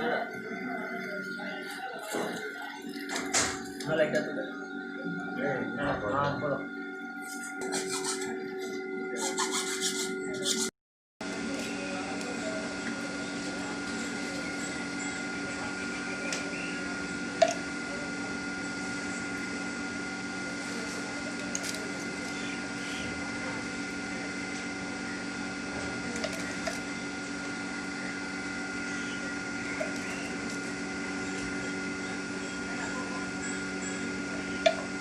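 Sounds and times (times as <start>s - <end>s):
pump motor humming: 0.0s - 35.0s.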